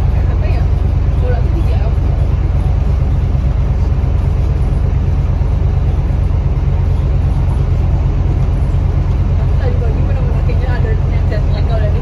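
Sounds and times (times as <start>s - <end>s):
bus diesel engine rumble: 0.0s - 12.0s
road noise: 0.0s - 12.0s.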